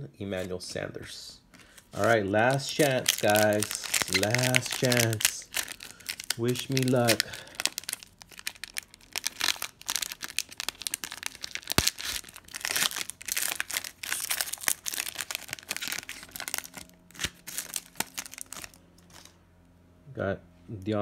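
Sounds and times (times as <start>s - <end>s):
foil wrapper crinkling: 1.6s - 19.4s.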